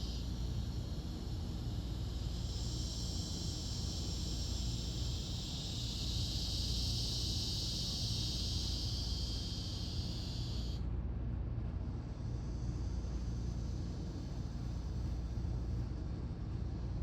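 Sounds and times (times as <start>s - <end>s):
insects chorus: 0.0s - 10.9s, 12.1s - 16.0s
low outdoor rumble: 0.0s - 17.0s.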